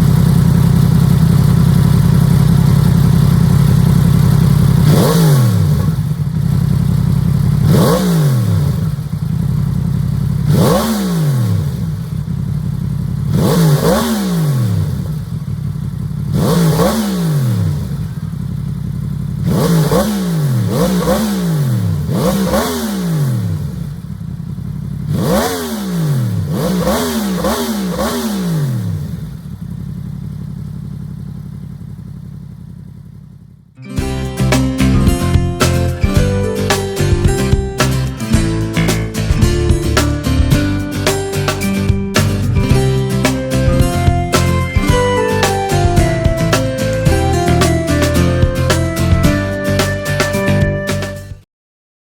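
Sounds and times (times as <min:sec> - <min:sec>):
motorcycle engine revving: 0:00.0 - 0:33.8, 0:35.0 - 0:51.3.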